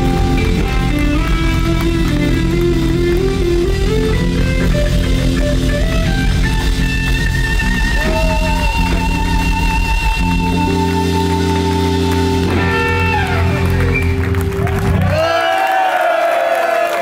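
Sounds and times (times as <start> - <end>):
electric guitar lead: 0.0 - 15.2
bass and drums: 0.0 - 15.4.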